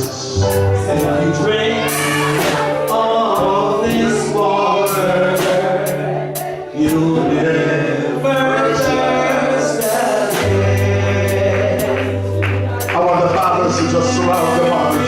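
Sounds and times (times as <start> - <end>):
steady cymbal beat: 0.0 - 7.5, 8.2 - 15.0
gospel singing over a band: 0.0 - 15.0
sustained bass notes: 0.0 - 15.0.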